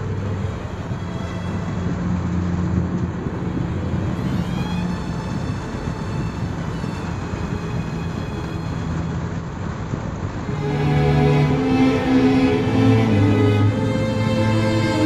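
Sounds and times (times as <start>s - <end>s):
low engine hum: 0.0s - 15.0s
wet road driving noise: 0.0s - 15.0s.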